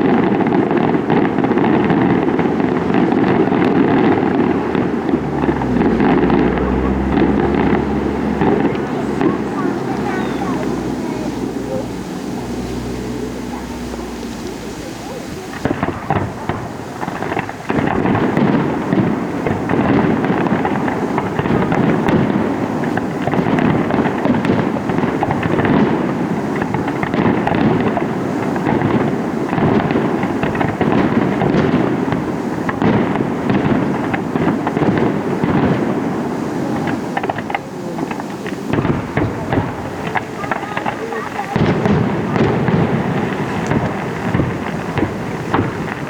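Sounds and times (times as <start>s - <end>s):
fireworks bangs and crackles: 0.0s - 46.0s.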